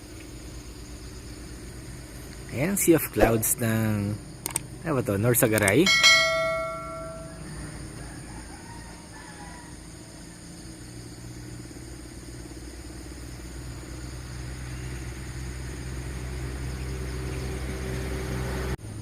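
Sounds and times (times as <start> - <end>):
vehicle engine running: 0.0 - 9.0, 9.7 - 19.0
high insect drone: 0.0 - 19.0.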